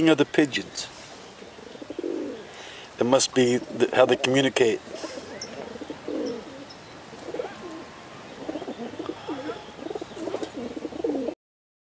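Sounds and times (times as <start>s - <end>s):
pigeons cooing: 1.0s - 11.4s.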